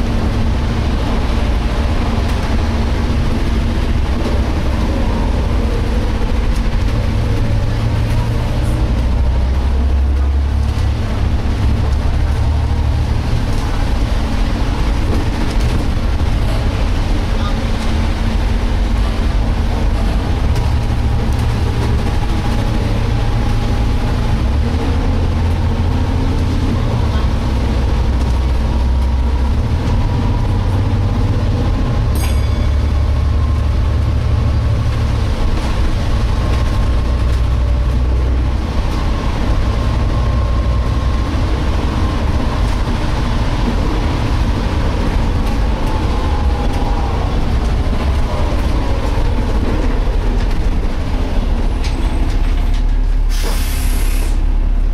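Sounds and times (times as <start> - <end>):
bus engine and road drone: 0.0 - 54.9
high whine of bus differential: 0.0 - 54.9.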